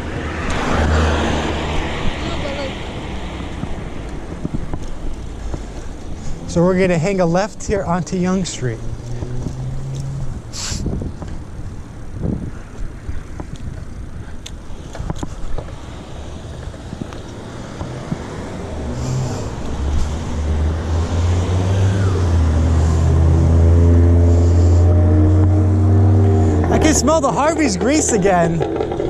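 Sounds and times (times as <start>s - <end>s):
vehicle engine: 0.0s - 29.0s
wind rumble: 0.0s - 29.0s.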